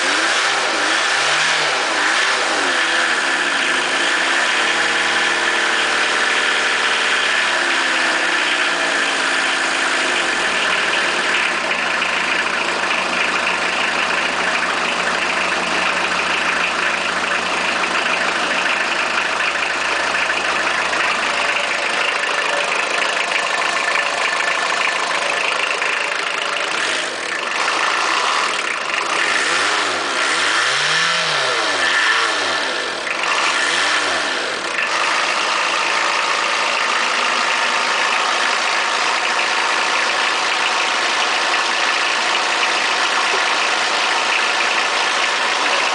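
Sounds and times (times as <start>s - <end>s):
diesel engine idling and revving: 0.0s - 45.9s.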